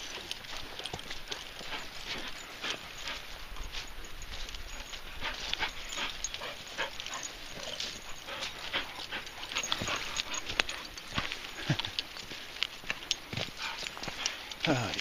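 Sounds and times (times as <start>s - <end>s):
dog footsteps on ground: 0.0s - 15.0s.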